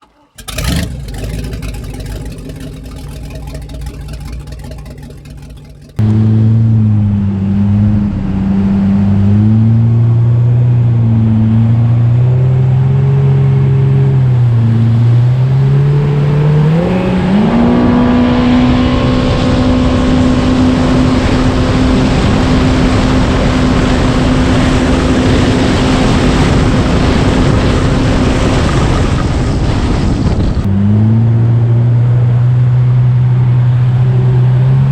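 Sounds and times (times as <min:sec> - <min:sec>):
jet ski engine revving: 0:00.0 - 0:29.0.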